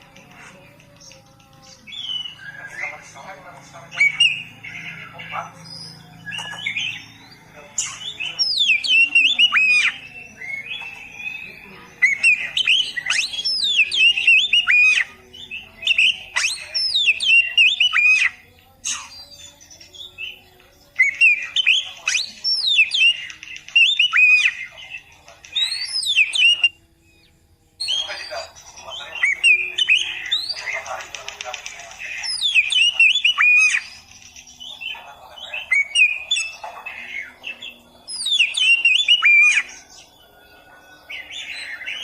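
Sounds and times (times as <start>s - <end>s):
bird singing whistles and chatter: 0.0s - 42.0s.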